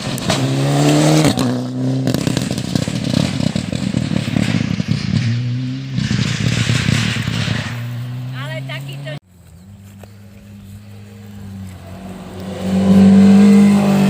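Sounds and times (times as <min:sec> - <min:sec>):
rally car engine at full throttle: 0:00.0 - 0:09.2, 0:09.8 - 0:14.0.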